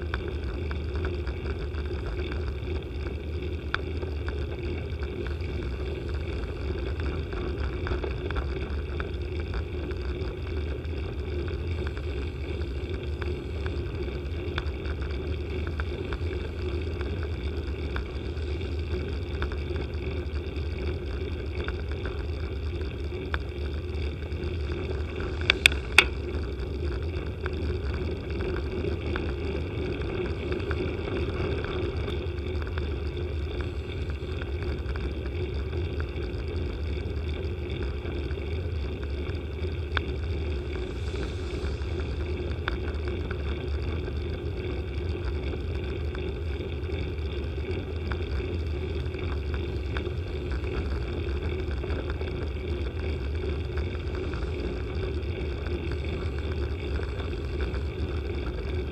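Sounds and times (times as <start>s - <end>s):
road rumble: 0.0s - 58.9s.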